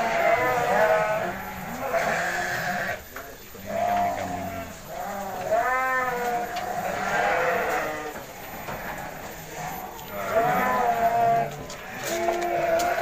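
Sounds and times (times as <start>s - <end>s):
sheep bleating: 0.0s - 13.0s.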